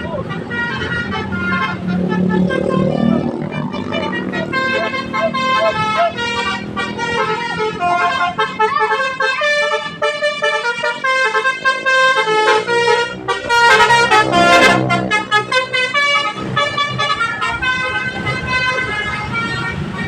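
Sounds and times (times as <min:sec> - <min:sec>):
tuned air horns playing melody: 0:00.0 - 0:20.0.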